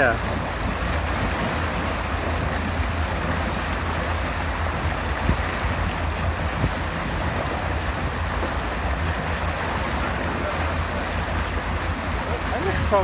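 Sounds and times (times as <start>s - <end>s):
motorboat engine droning: 0.0s - 13.0s
wind and water rushing: 0.0s - 13.0s.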